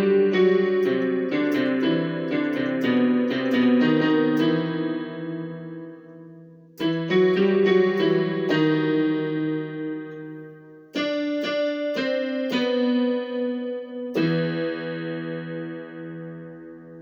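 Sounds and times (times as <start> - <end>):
electronic keyboard piano phrase: 0.0 - 17.0.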